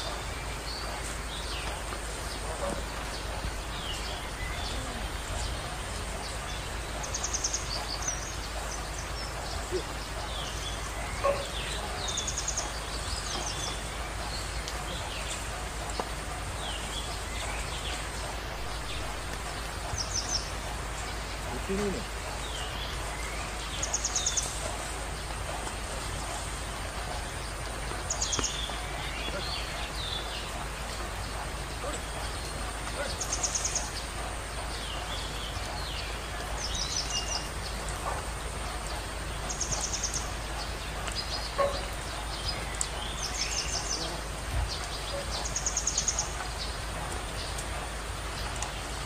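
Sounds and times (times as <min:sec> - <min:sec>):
birds chirping and calling: 0:00.0 - 0:49.0
steady background hiss: 0:00.0 - 0:49.0.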